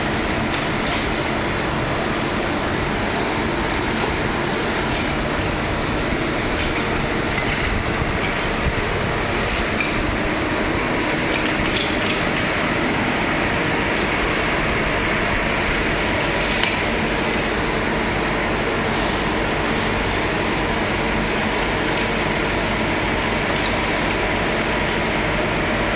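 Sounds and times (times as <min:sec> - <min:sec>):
boiler plant machinery noise: 0:00.0 - 0:25.9.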